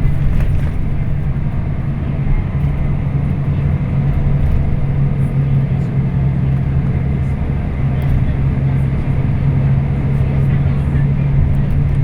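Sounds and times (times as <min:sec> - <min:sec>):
coach engine drone: 0:00.0 - 0:12.0
road noise: 0:00.0 - 0:12.0.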